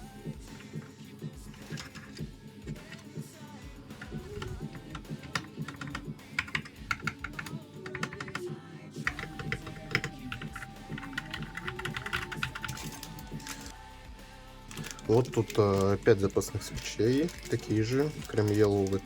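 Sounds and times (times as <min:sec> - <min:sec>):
mechanical keyboard typing: 0:01.5 - 0:03.1, 0:04.0 - 0:13.7, 0:14.7 - 0:19.0.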